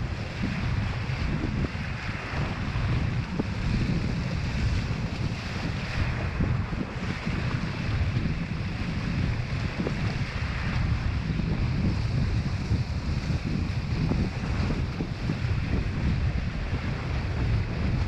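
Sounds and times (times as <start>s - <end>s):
choppy water hissing under board: 0.0s - 18.0s
wind buffeting microphone: 0.0s - 18.0s.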